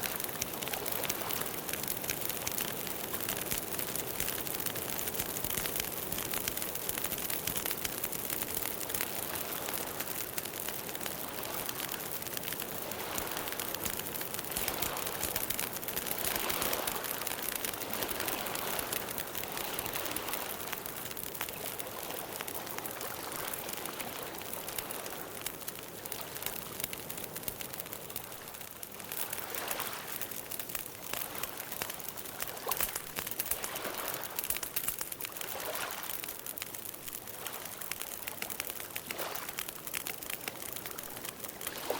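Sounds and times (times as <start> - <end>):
campfire crackling and hissing: 0.0 - 41.9.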